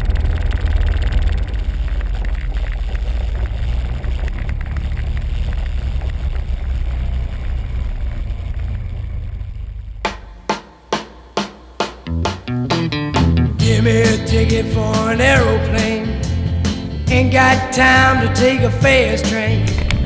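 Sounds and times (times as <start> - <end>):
quad bike engine rumbling: 0.0 - 10.6, 12.1 - 20.0.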